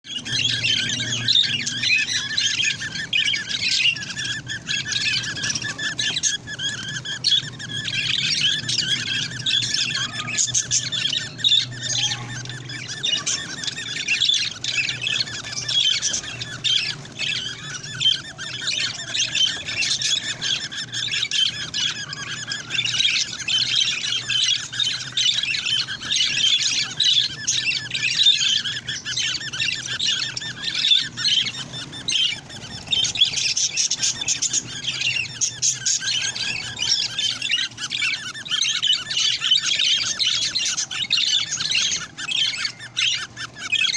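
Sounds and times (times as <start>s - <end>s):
parrot chicks squawking: 0.0s - 43.9s.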